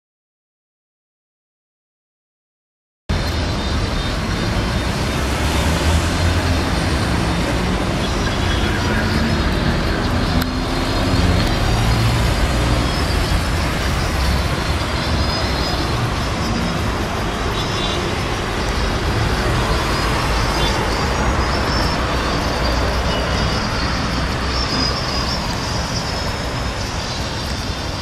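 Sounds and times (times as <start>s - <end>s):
cars and vans driving past: 3.1s - 28.0s.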